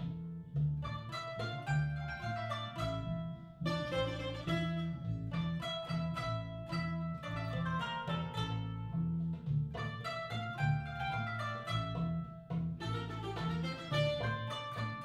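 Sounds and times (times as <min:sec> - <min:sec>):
plucked string ensemble: 0:00.0 - 0:15.0
pulsing bass line: 0:00.0 - 0:15.0.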